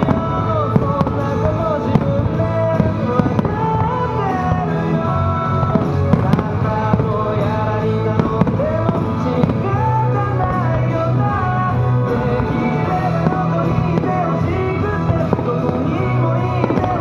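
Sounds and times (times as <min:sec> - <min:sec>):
fireworks bangs: 0:00.0 - 0:17.0
loud melodic music: 0:00.0 - 0:17.0.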